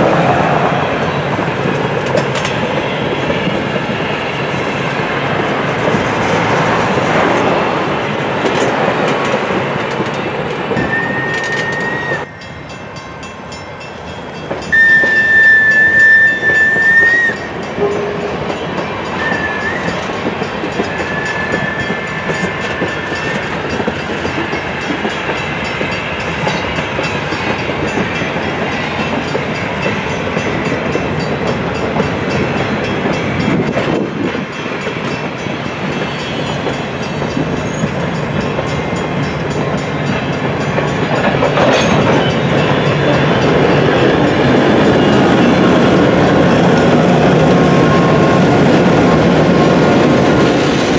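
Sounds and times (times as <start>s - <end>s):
diesel locomotive engine: 0.0s - 50.9s
freight train wheels clicking on rails: 0.0s - 50.9s.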